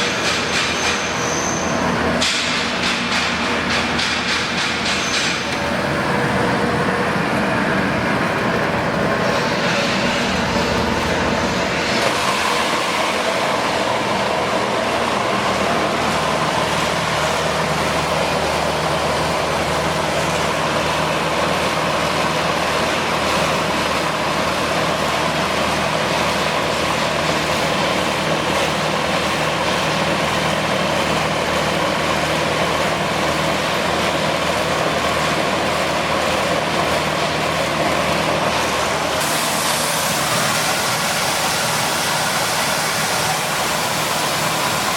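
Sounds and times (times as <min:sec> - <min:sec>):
milling machine running: 0:00.0 - 0:44.9.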